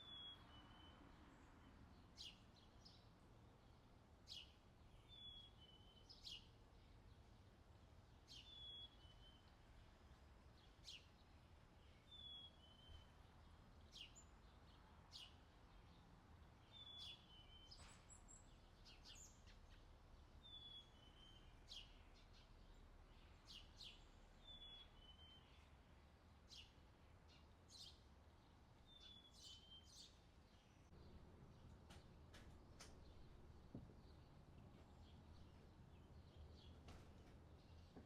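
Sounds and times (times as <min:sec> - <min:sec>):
low steady background hum: 0:00.0 - 0:38.0.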